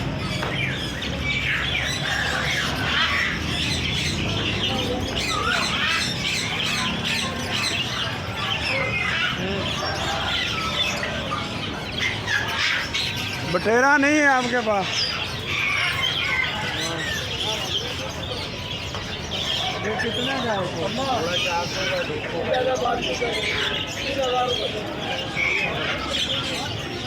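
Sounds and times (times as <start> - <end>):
birds chirping and squawking: 0.0 - 27.0.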